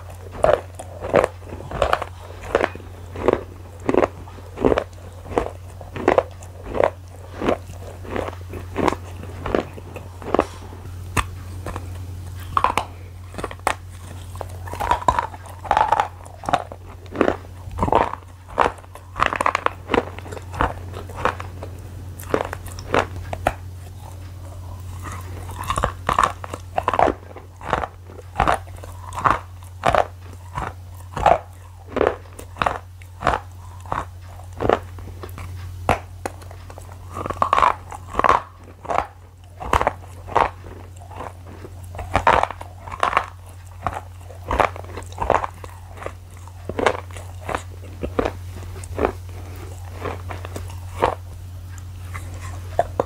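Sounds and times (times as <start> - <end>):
person chewing crunchy food: 0.0 - 53.0
steady low hum: 0.0 - 53.0.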